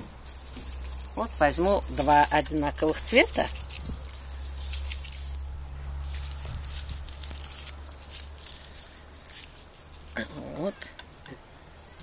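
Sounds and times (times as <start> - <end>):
dry onion husks crackling: 0.0 - 12.0
low steady hum: 0.0 - 12.0.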